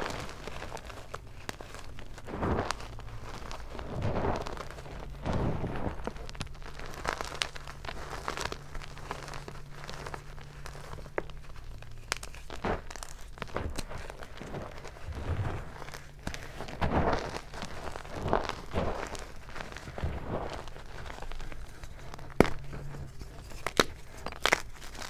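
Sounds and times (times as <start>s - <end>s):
hands crushing chalk blocks: 0.0s - 25.0s.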